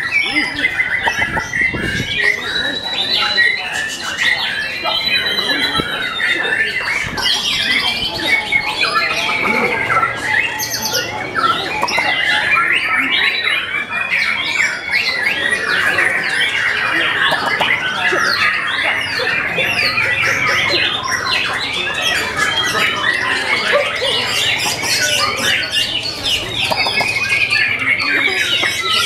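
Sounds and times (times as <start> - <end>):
birds singing chirps and whistles: 0.0 - 29.0.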